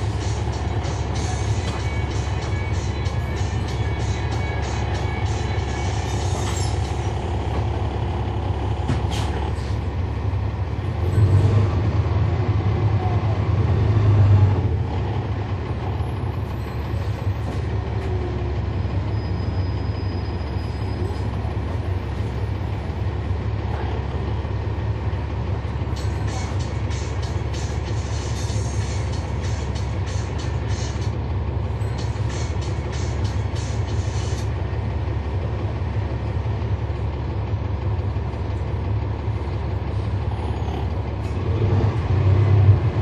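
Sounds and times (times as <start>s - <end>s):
bus diesel engine droning: 0.0s - 43.0s.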